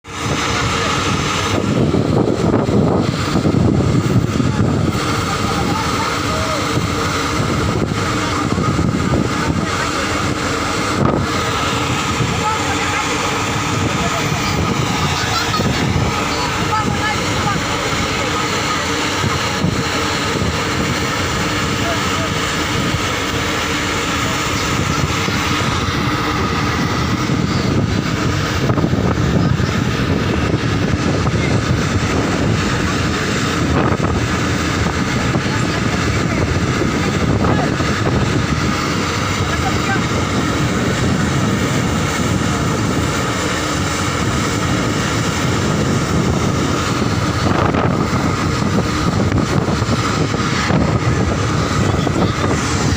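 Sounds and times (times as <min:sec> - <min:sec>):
motorboat engine running: 0:00.0 - 0:52.9.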